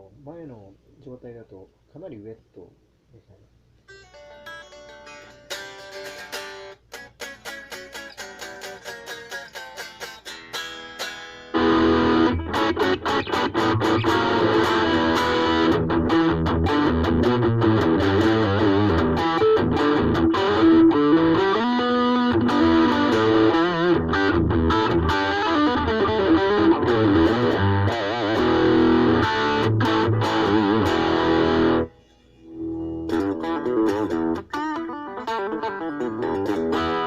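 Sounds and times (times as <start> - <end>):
electric guitar playing: 3.9 - 37.0
distorted electric guitar: 4.0 - 37.0.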